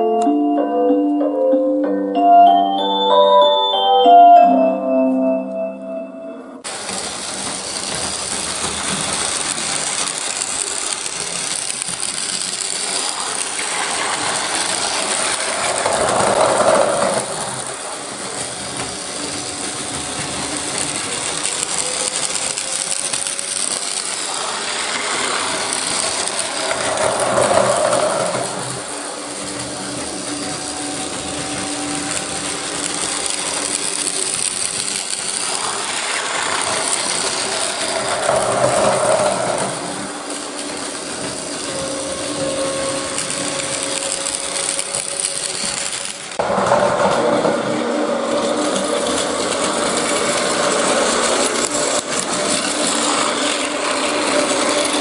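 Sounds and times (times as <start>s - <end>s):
toy train motor whirring: 6.7s - 55.0s.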